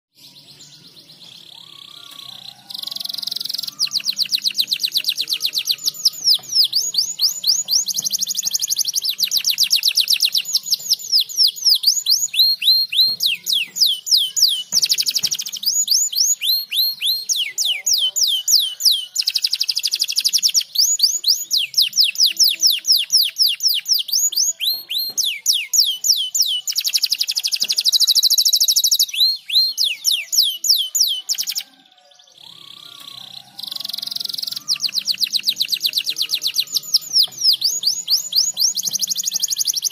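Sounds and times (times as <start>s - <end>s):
canary singing trills and whistles: 0.1s - 39.9s.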